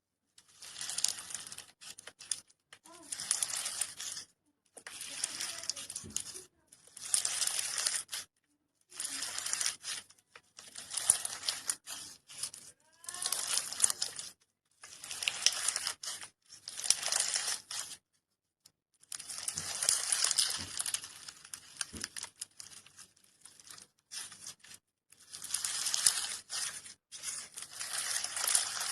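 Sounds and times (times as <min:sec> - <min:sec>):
slime crackling and popping: 0:00.4 - 0:18.0, 0:19.0 - 0:28.9.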